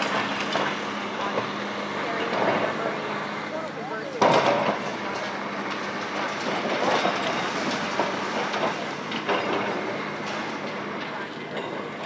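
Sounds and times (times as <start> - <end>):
demolition machinery humming: 0.0 - 12.0.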